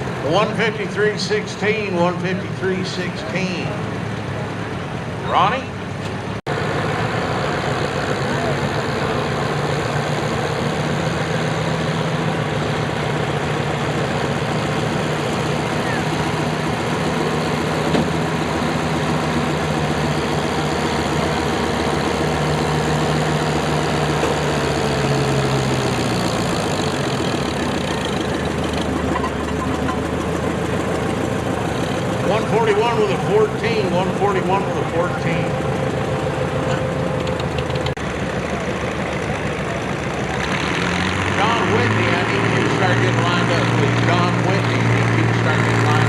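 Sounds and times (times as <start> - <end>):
tractor engine running under load: 0.0 - 5.2, 5.8 - 46.0.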